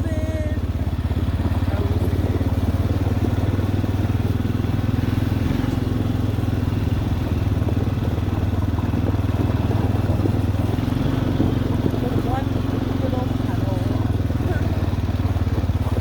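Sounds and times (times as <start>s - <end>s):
quad engine running steadily: 0.0s - 16.0s.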